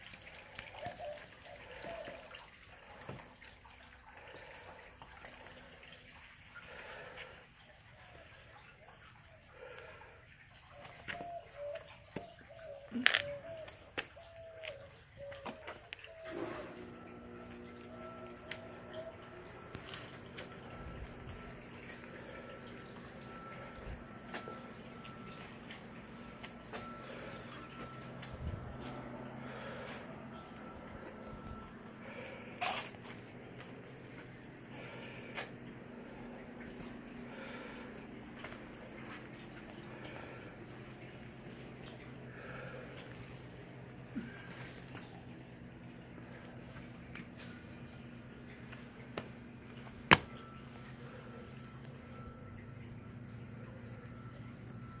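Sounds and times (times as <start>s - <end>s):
water trickling over stone: 0.0s - 16.3s, 17.1s - 55.0s
water drips and gurgles: 0.0s - 55.0s.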